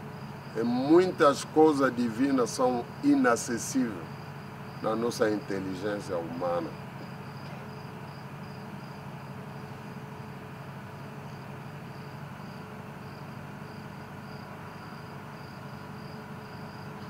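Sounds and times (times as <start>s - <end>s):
insects chirping: 0.0s - 17.0s
low steady hum: 0.0s - 17.0s.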